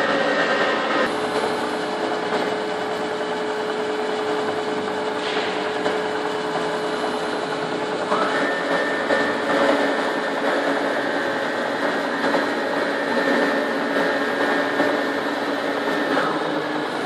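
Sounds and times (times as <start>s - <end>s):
machine whine rising in pitch: 0.0s - 17.0s
milling machine humming: 0.0s - 17.0s.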